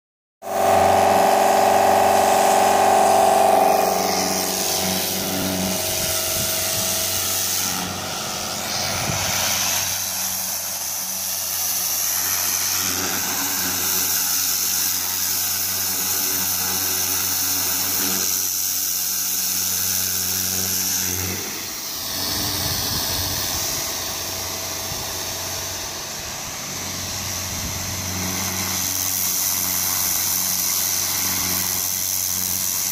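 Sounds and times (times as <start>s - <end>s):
pressure washer pump humming: 0.4s - 32.9s
water hissing from nozzle: 0.5s - 32.9s.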